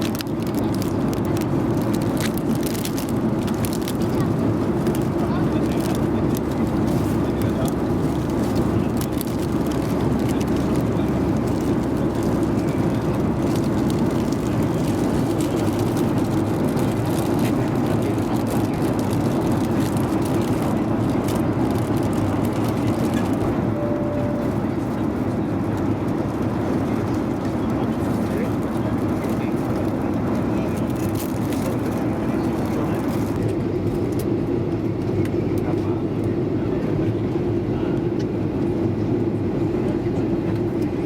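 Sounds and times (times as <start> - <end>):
airplane cabin engine rush: 0.0 - 41.0.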